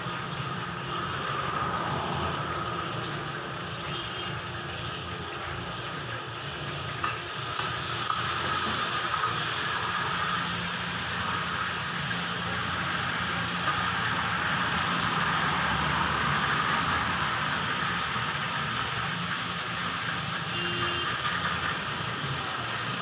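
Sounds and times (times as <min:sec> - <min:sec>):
gas burners hissing: 0:00.0 - 0:23.0.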